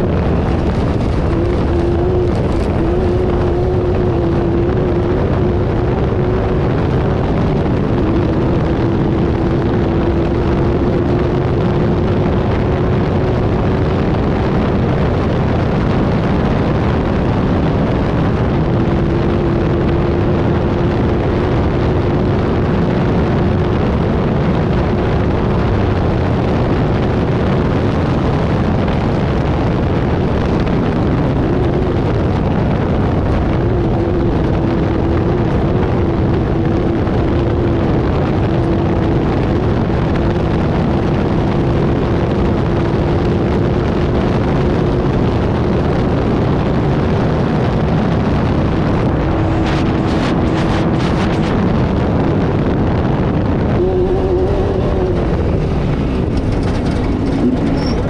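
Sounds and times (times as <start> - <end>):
heavy rushing noise: 0.0 - 58.0
race car engine running: 0.0 - 58.0.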